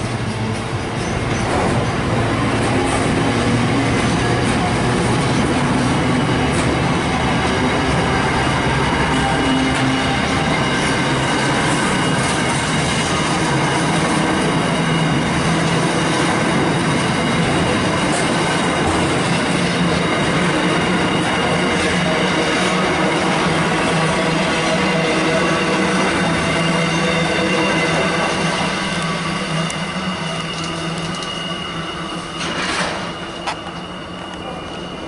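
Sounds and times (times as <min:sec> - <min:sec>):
freight train wheels on rails: 0:00.0 - 0:35.0.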